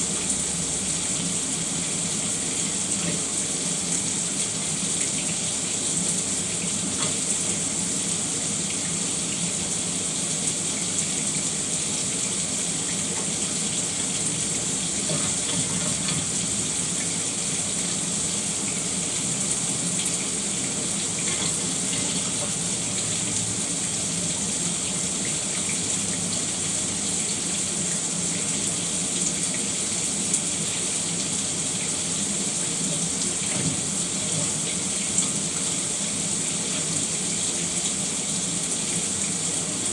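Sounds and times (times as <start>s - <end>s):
shower water splashing: 0.0s - 39.9s.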